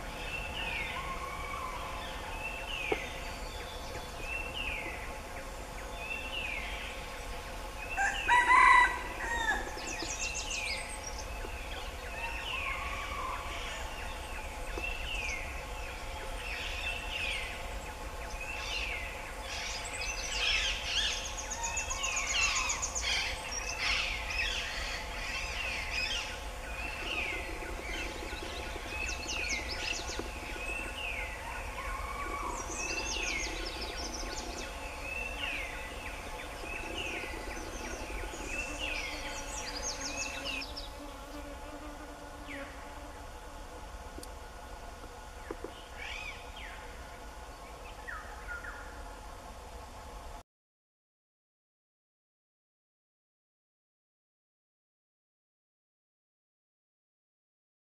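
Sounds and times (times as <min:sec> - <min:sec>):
insect drone: 0:00.0 - 0:50.3.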